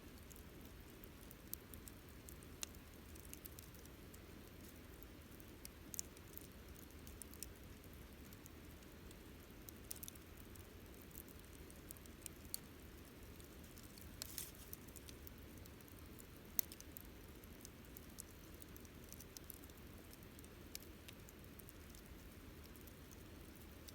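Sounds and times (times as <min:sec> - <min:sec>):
campfire crackling: 0:00.2 - 0:23.9.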